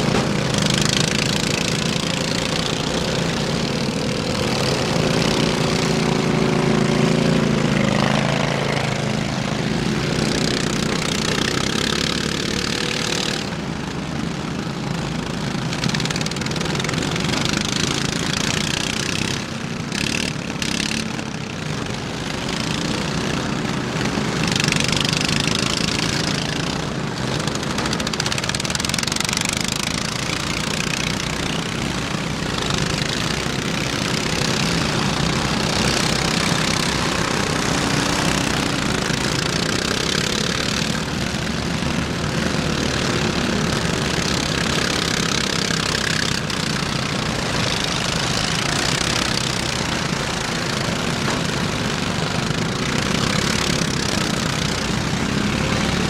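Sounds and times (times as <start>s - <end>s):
riding lawn mower engines: 0.0s - 56.0s.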